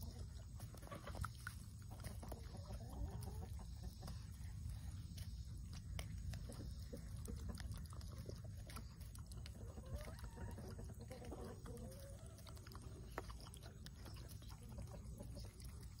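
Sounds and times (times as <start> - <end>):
turkeys pecking: 0.0 - 16.0.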